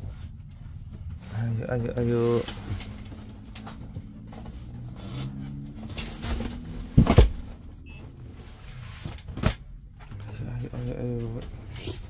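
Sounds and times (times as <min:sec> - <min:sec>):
cushions rustling: 0:00.0 - 0:10.0.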